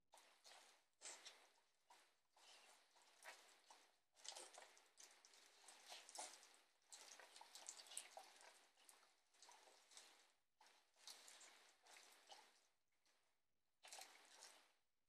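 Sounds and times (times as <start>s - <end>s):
tortoises chewing vegetables: 0.2s - 12.7s, 13.8s - 14.8s.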